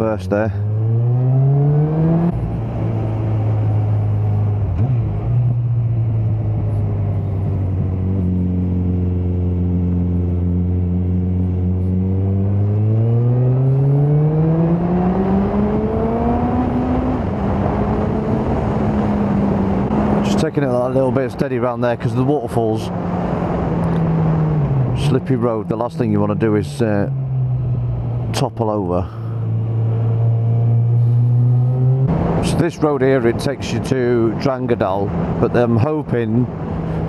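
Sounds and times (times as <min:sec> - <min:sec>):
motorcycle engine accelerating: 0:00.6 - 0:20.5, 0:22.9 - 0:28.4, 0:29.2 - 0:33.5.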